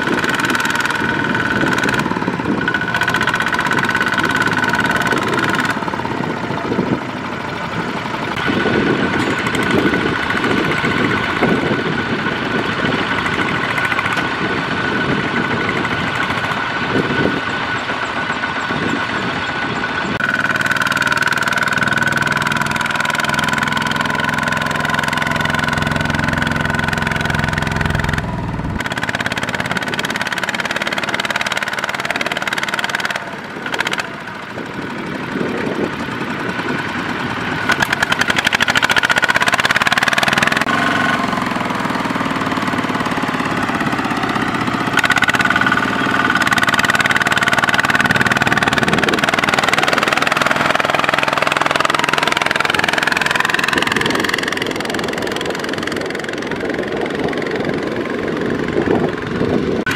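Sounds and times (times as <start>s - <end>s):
diesel tractor engine under load: 0.0s - 59.9s.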